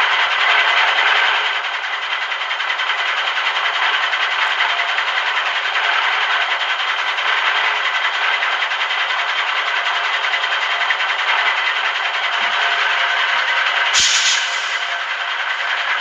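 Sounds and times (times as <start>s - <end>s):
truck rattling and rolling: 0.0s - 16.0s.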